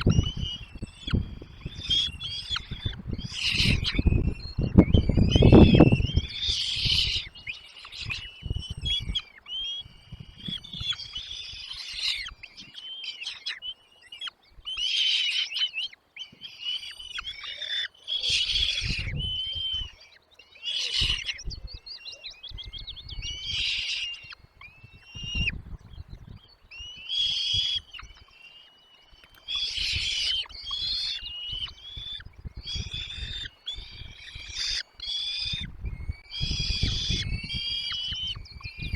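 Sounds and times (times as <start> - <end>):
nestling birds chirping: 0.0 - 38.9.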